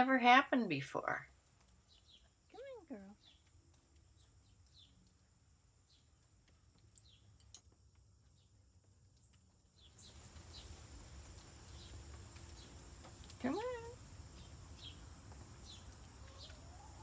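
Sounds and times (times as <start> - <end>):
small birds chirping: 1.0 - 17.0.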